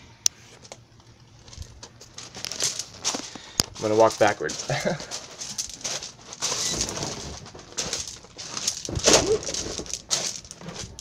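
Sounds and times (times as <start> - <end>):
handheld camera rustling: 0.4 - 11.0
footsteps: 1.3 - 11.0.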